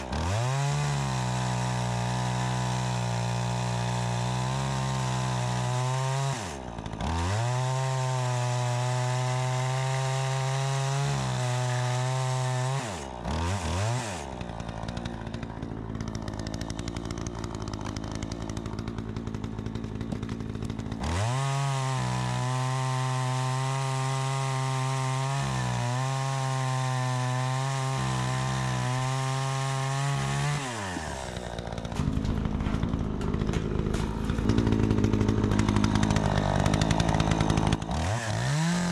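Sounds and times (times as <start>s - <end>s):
chainsaw cutting wood: 0.0s - 38.9s
chainsaw engine revving: 0.0s - 38.9s.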